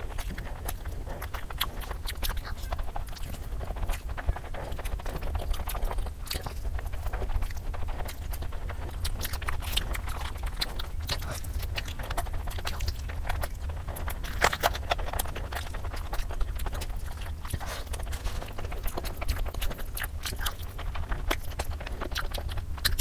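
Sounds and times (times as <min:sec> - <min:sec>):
steady low hum: 0:00.0 - 0:23.0
wet chewing and mouth smacks: 0:00.0 - 0:23.0.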